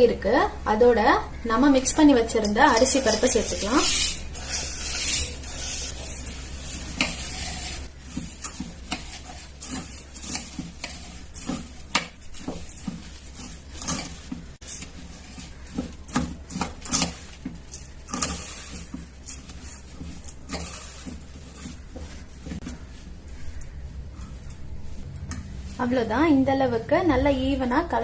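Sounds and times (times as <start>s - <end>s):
spoon stirring and scraping pan: 1.8s - 26.2s.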